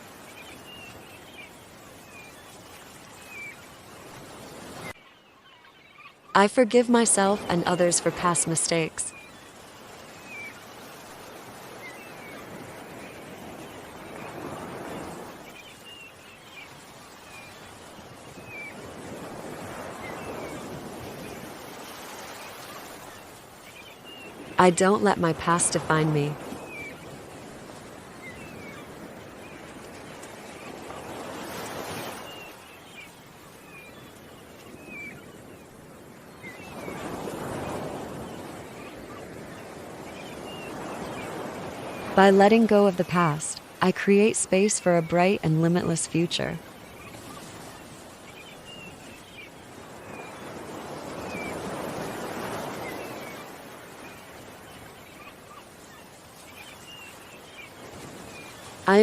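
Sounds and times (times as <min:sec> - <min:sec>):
ocean waves washing in: 0:00.0 - 0:59.0
small birds chirping: 0:00.0 - 0:59.0.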